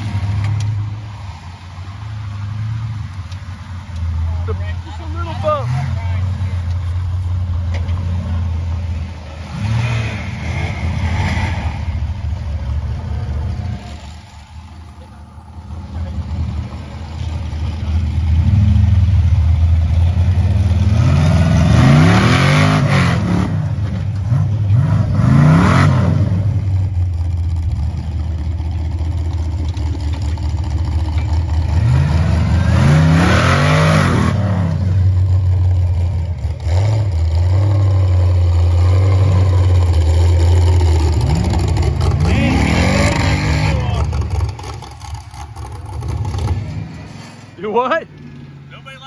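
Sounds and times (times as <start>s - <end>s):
off-road engines revving: 0.0s - 49.0s.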